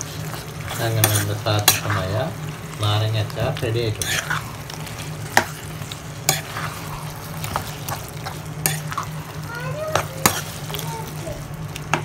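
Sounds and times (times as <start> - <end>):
wet churning of pickle: 0.0 - 12.0.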